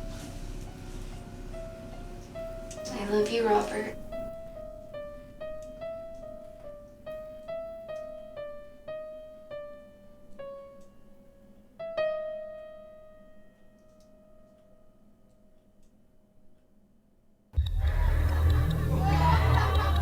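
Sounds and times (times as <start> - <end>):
solo piano melody: 0.0 - 17.6.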